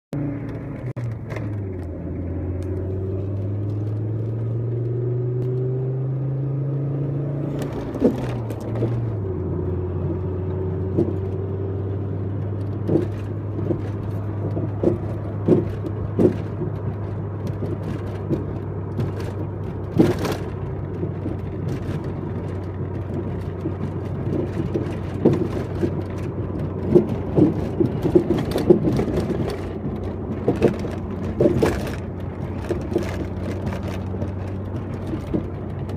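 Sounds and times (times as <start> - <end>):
car engine running: 0.2 - 35.9.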